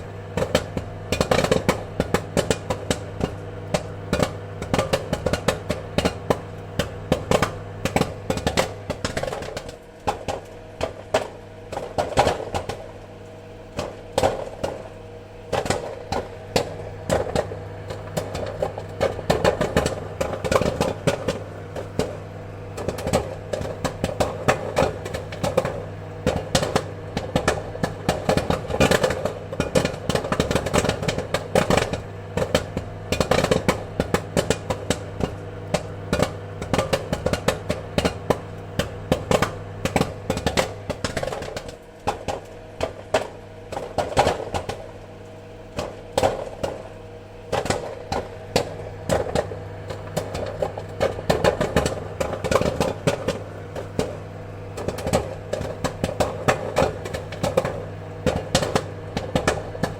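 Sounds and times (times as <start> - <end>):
steady low hum: 0.0 - 59.9
popcorn kernels popping: 0.1 - 59.9.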